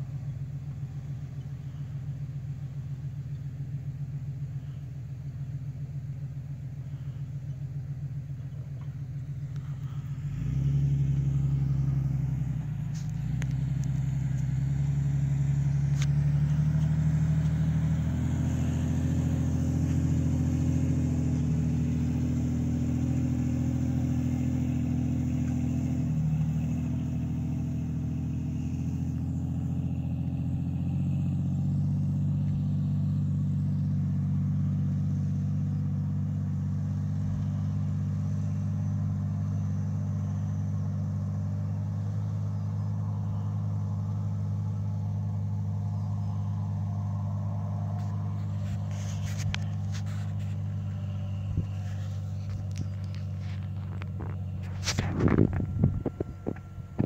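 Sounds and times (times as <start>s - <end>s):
engine revving under load: 9.2s - 57.0s.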